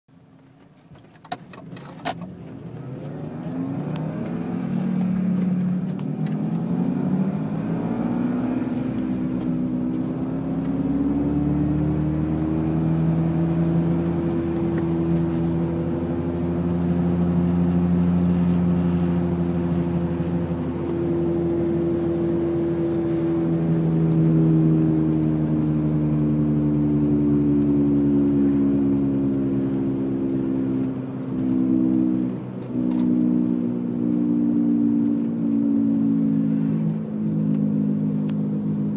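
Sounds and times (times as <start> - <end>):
car engine accelerating: 0.4 - 38.9.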